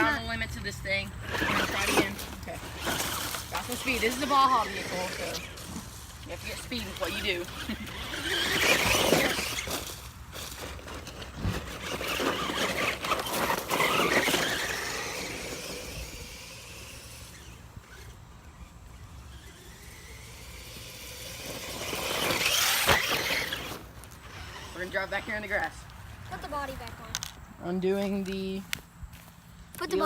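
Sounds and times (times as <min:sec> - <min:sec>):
electric motor whining: 0:00.0 - 0:25.7.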